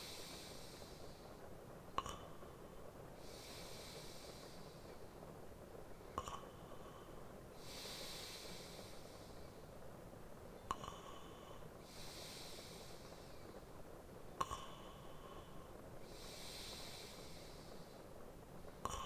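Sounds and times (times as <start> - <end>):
man breathing in sleep: 0.0 - 5.3, 6.2 - 9.9, 10.7 - 13.7, 14.4 - 18.2, 18.8 - 19.0
rain hiss: 0.0 - 19.0.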